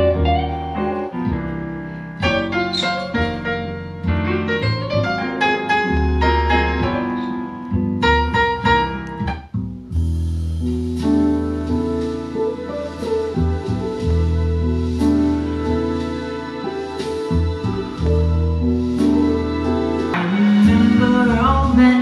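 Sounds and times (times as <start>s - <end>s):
piano music with bass: 0.0s - 22.0s.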